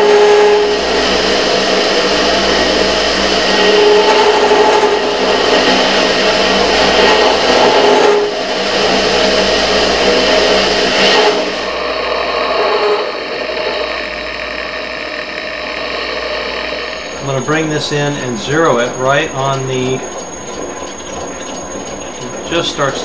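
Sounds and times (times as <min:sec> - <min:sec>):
lathe tool cutting metal: 0:00.0 - 0:23.0
metal lathe motor and gear whine: 0:00.0 - 0:23.0.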